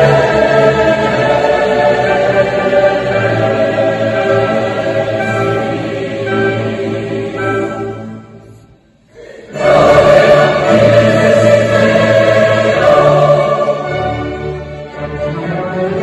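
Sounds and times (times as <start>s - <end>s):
orchestral accompaniment: 0.0s - 8.9s, 9.6s - 16.0s
choir singing: 0.0s - 16.0s.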